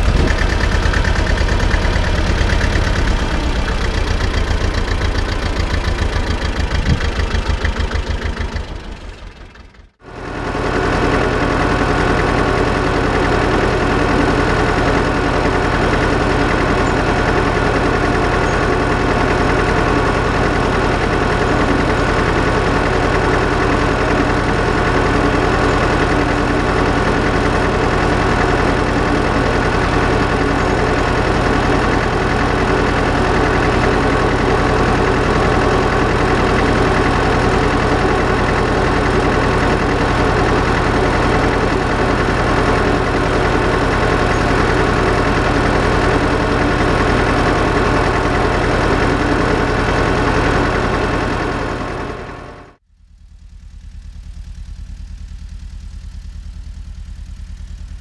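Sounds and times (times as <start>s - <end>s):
faint low engine sound: 0.0s - 48.2s, 52.7s - 58.0s
tractor engine running: 0.0s - 58.0s.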